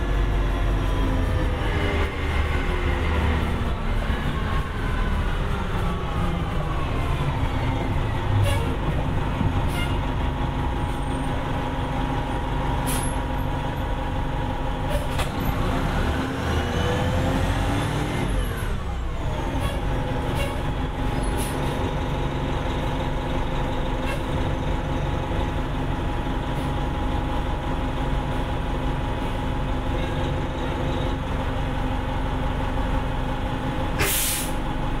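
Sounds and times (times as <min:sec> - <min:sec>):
bus diesel engine: 0:00.0 - 0:35.0.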